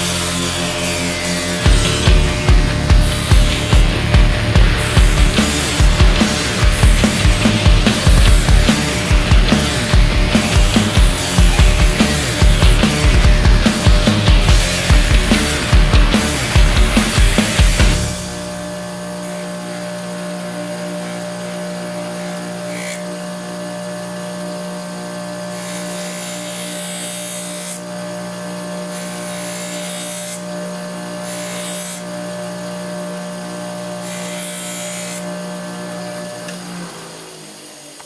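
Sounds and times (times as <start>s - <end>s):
electric grinder motor humming: 0.0s - 38.0s.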